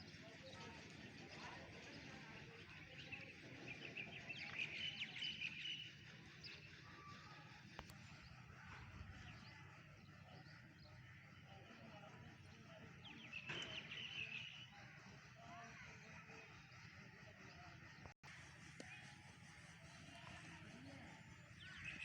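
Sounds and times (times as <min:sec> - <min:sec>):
low outdoor background noise: 0:00.0 - 0:22.0.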